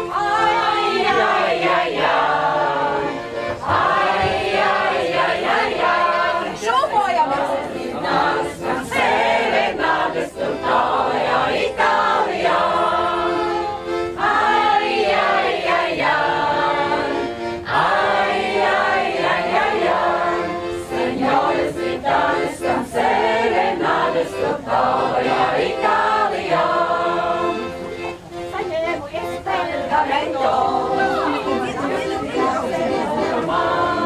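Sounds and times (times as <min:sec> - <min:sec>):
group of voices singing: 0:00.0 - 0:34.0.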